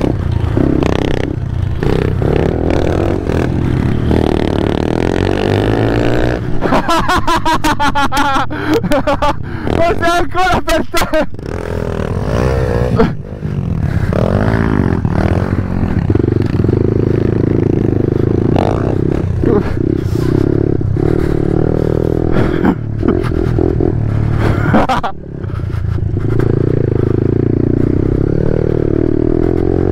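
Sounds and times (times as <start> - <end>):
pit bike engine revving: 0.0 - 8.4, 11.0 - 29.9.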